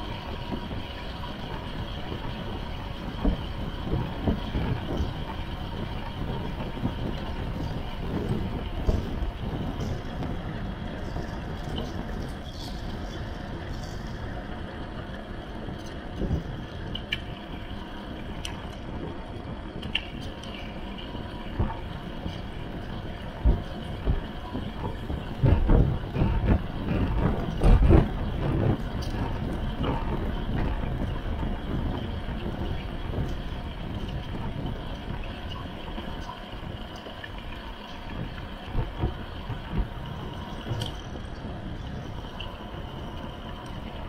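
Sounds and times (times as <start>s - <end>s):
loud low wind buffets: 0.0s - 44.0s
wind rushing over microphone: 0.0s - 44.0s.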